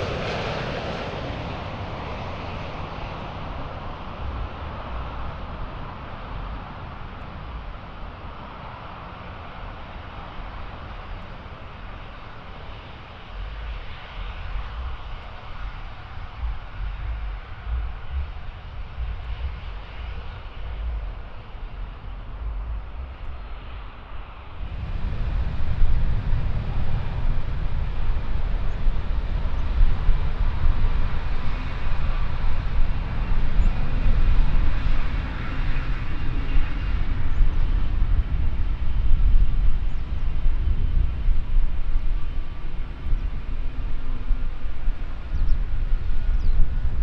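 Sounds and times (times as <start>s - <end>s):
faint engine whine: 0.0s - 47.0s
jet engine rumble: 0.0s - 47.0s.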